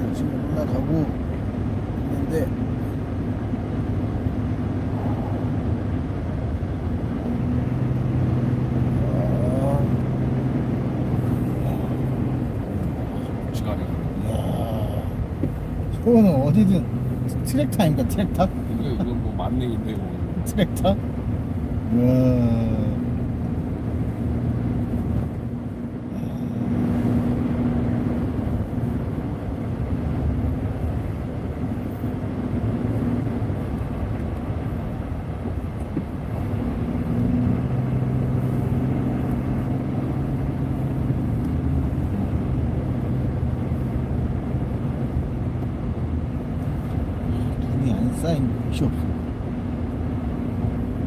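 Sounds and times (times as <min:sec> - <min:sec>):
car engine drone: 0:00.0 - 0:51.0
road noise: 0:00.0 - 0:51.0.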